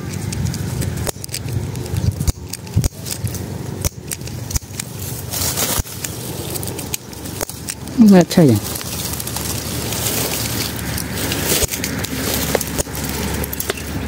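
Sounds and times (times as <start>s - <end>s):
leaves rustling: 0.0s - 14.0s
twigs being snipped: 0.0s - 14.0s.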